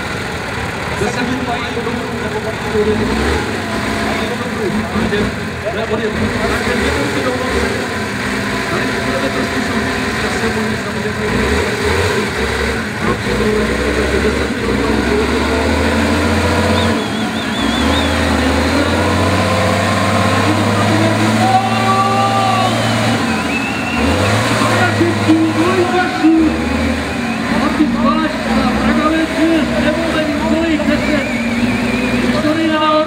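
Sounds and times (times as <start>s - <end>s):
diesel truck engine under load: 0.0s - 33.0s.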